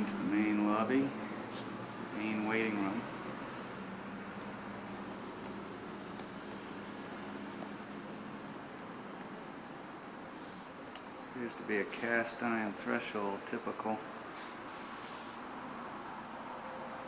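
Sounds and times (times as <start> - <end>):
faint low hum: 0.0 - 14.1
insects chirping trill: 0.0 - 17.0.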